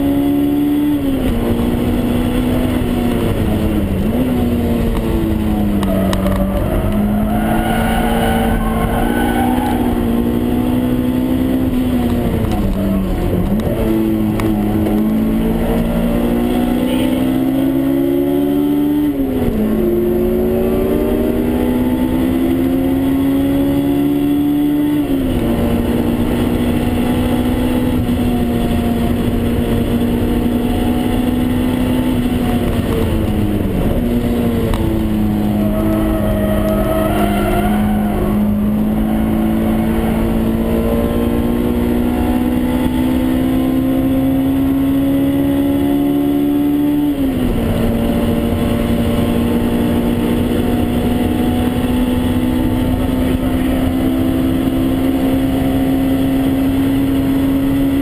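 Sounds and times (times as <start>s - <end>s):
car engine revving under acceleration: 0.0s - 58.0s.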